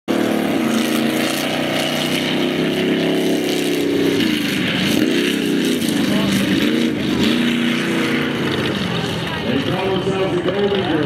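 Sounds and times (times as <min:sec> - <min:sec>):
truck engine revving hard: 0:00.1 - 0:11.0.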